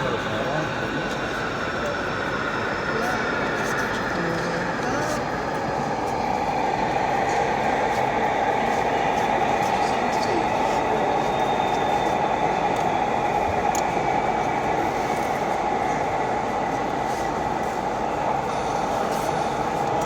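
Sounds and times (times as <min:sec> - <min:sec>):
model trains running on track: 0:00.0 - 0:20.0.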